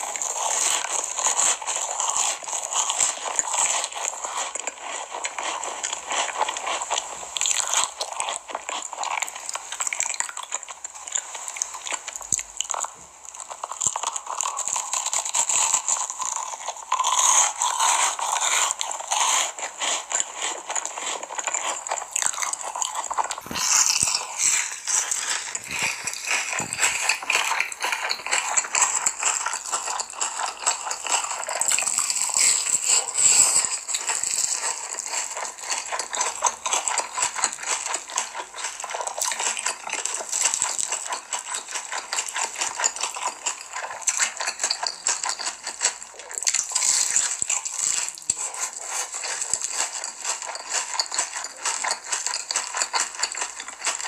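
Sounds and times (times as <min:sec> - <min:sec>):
chewing and wet mouth sounds: 0:00.0 - 0:54.0
crunchy bites: 0:00.0 - 0:54.0.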